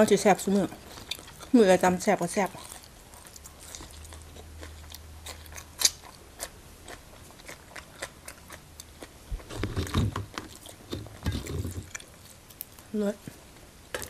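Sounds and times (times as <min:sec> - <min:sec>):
crisp vegetable crunching: 0:00.1 - 0:12.9.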